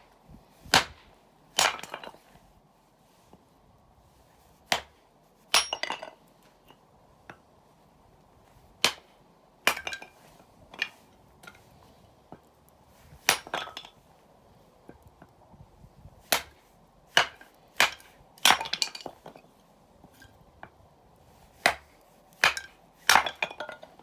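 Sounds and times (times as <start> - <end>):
steady low hiss: 0.0 - 24.0.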